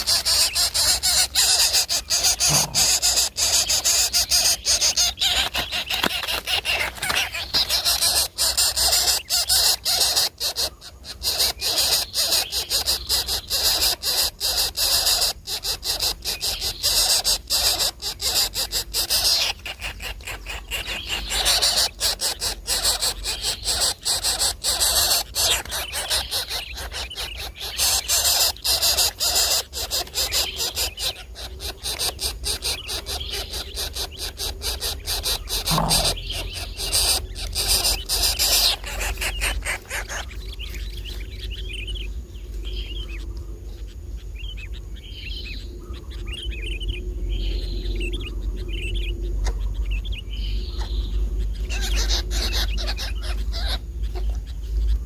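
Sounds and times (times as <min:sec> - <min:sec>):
chicks squealing begging calls: 0:00.0 - 0:55.0.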